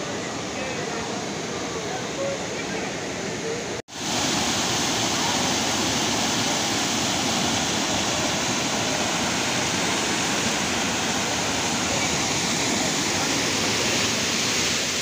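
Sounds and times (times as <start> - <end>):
water tumbling down waterfall: 0.0 - 15.0.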